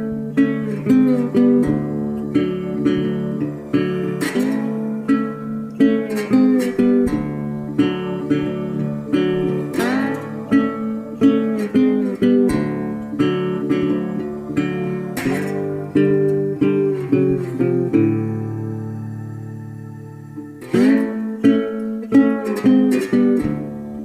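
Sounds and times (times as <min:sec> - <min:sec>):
acoustic guitar music: 0:00.0 - 0:24.0.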